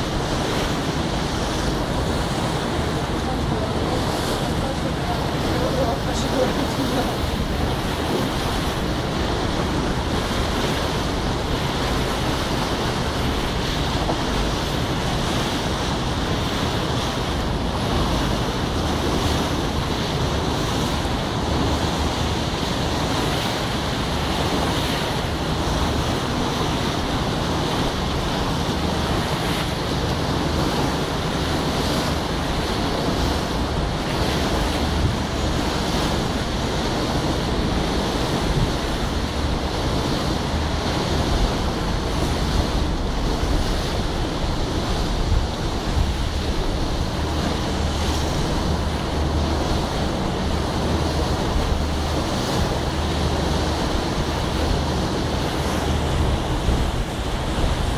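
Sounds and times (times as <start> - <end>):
water washing along boat: 0.0 - 57.9
wind buffeting microphone: 0.0 - 57.9.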